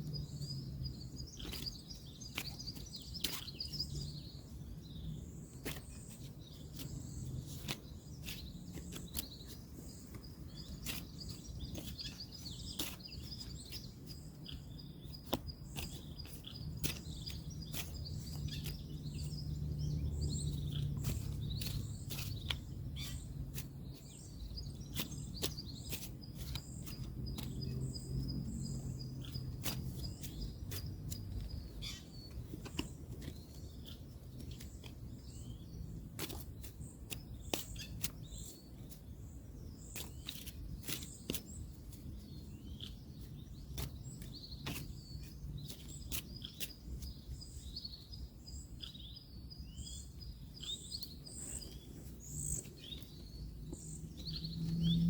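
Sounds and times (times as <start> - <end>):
birds chirping: 0.0 - 55.0
distant road traffic: 0.0 - 55.0.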